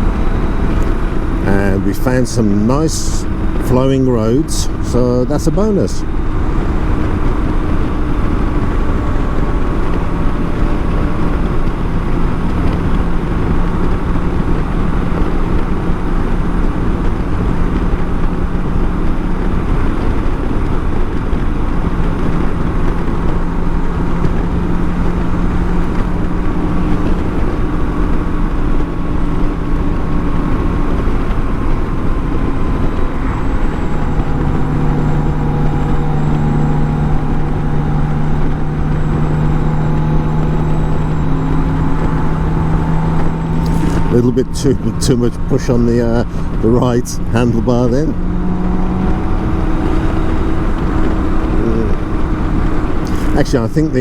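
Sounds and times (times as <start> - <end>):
heavy wind noise: 0.0 - 54.0
motorcycle engine running: 0.0 - 54.0.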